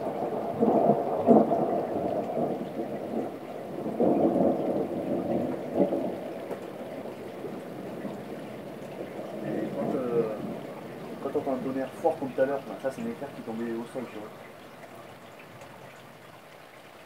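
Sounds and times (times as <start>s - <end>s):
thunder rumbling: 0.0s - 15.9s
steady rain: 0.0s - 17.0s.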